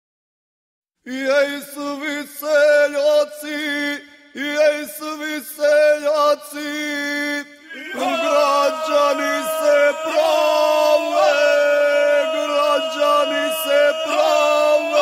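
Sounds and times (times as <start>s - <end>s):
men singing unaccompanied: 1.1s - 15.0s.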